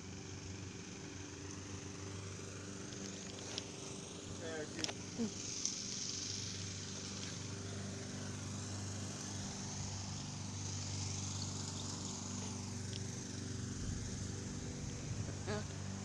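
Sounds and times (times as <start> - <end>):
motor humming steadily: 0.0 - 16.0.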